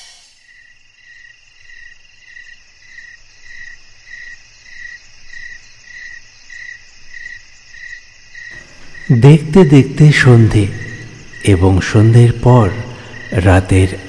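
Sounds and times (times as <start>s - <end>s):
crickets chirping: 0.0s - 14.0s
insect trill: 0.0s - 14.0s.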